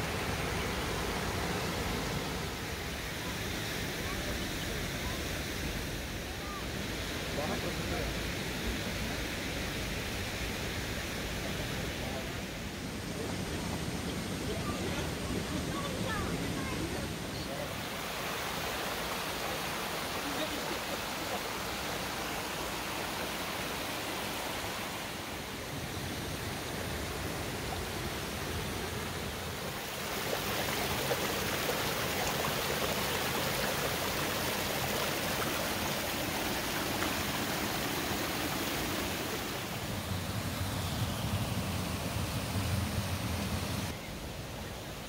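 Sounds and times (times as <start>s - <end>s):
creek water rushing: 0.0s - 45.0s.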